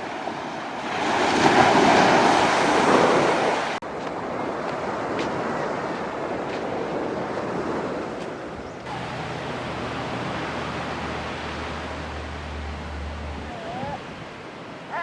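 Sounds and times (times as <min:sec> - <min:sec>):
sea surf washing on beach: 0:00.0 - 0:15.0.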